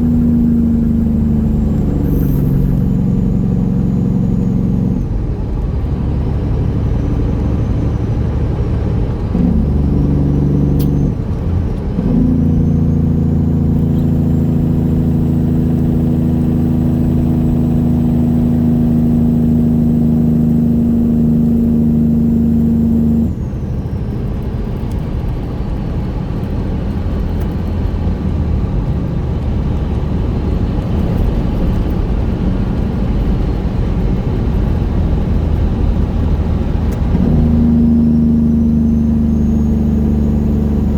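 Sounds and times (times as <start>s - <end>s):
diesel truck exhaust: 0.0s - 40.9s
truck rolling rumble: 0.0s - 40.9s.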